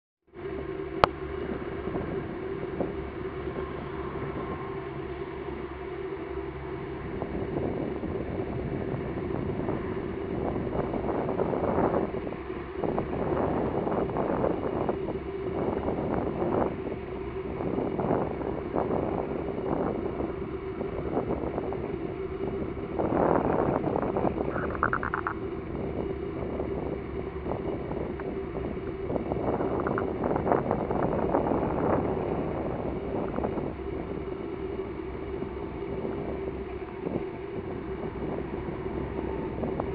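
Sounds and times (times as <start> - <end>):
steady low hum: 0.3 - 39.9
wind buffeting microphone: 0.4 - 39.9.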